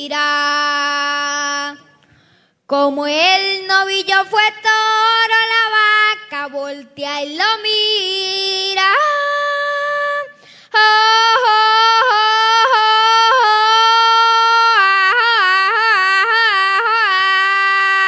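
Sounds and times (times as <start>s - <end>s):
boy singing yodel-like call: 0.0s - 1.9s, 2.7s - 18.0s.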